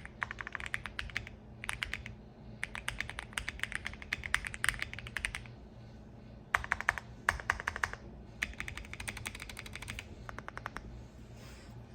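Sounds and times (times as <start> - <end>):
fast typing on mechanical keyboard: 0.0 - 5.5, 6.6 - 10.8.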